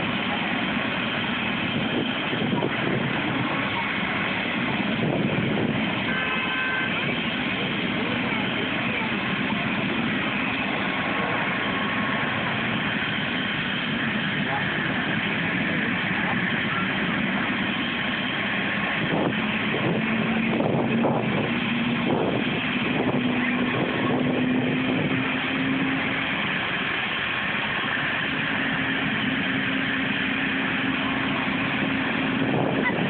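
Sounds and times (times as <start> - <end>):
helicopter engine and rotor: 0.0 - 33.0.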